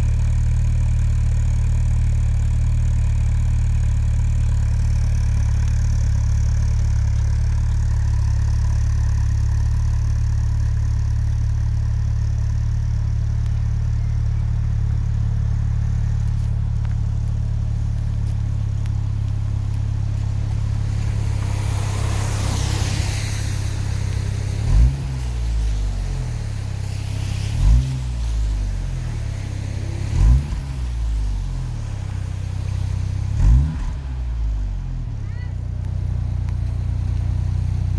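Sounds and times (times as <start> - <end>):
car engine idling: 0.0 - 37.9
engine throttle blips: 2.7 - 37.9.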